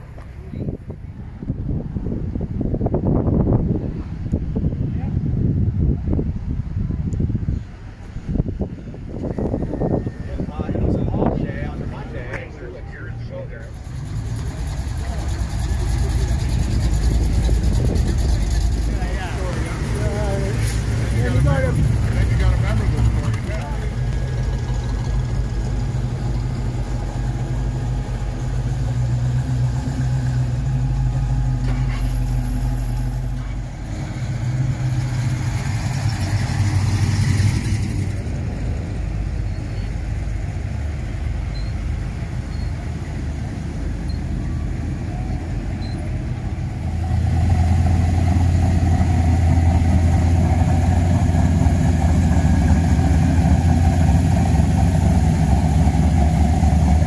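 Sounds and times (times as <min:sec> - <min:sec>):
cars driving slowly past: 0:00.0 - 0:57.0
deep engine passing close: 0:08.3 - 0:57.0.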